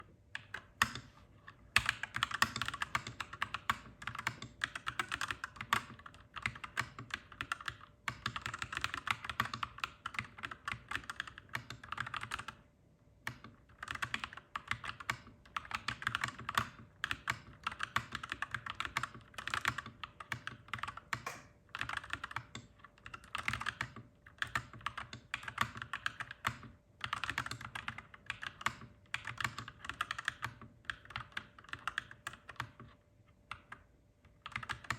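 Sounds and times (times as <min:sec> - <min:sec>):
mechanical keyboard typing: 0:00.3 - 0:12.6, 0:13.2 - 0:34.9.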